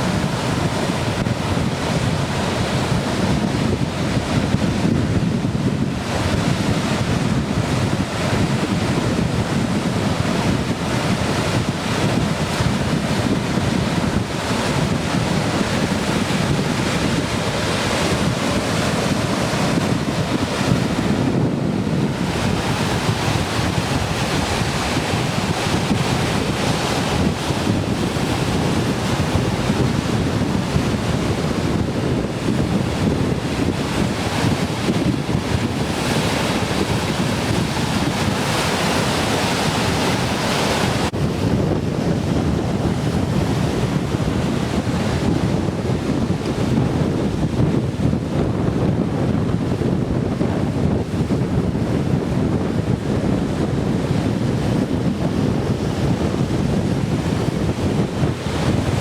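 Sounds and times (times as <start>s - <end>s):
ocean surf breaking: 0.0s - 59.0s
wind buffeting microphone: 0.0s - 59.0s.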